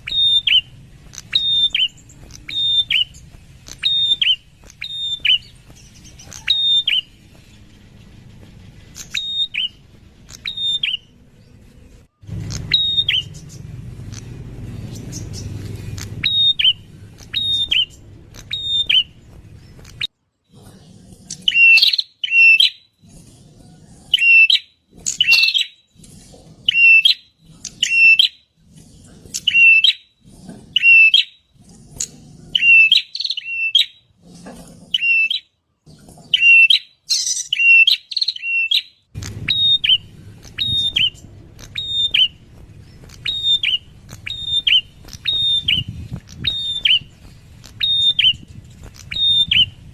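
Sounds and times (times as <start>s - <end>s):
bird calling sharp notes: 0.0s - 8.2s, 8.9s - 20.1s, 21.2s - 22.9s, 23.5s - 34.0s, 34.9s - 35.5s, 36.3s - 49.8s.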